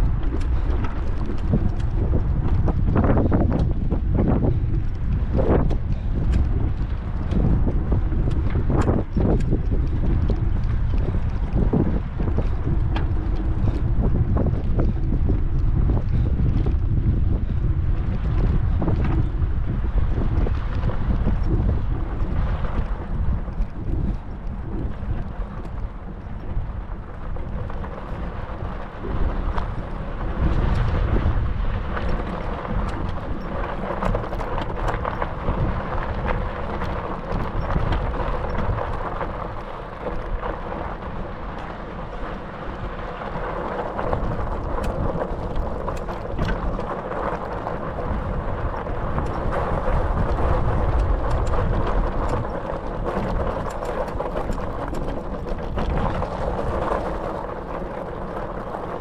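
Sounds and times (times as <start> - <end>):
clicks and crackles: 0.0 - 59.0
wind buffeting microphone: 0.0 - 59.0.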